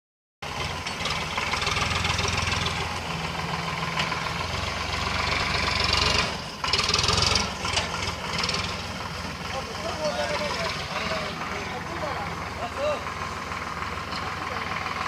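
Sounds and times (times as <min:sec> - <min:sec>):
tractor diesel engine running: 0:00.4 - 0:15.0.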